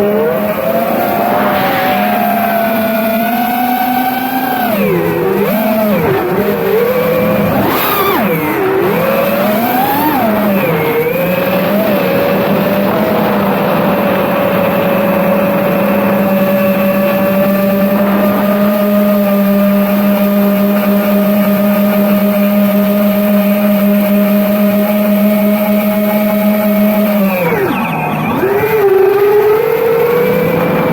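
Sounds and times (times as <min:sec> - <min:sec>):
quadcopter motors whining: 0:00.0 - 0:30.9.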